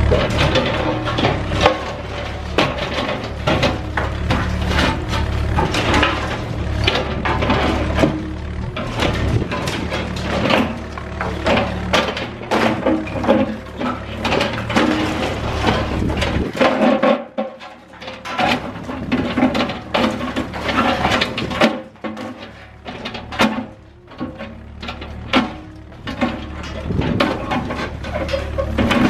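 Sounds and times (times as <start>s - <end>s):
concrete and metal debris clattering: 0.0s - 29.0s
excavator engine drone: 0.0s - 29.0s.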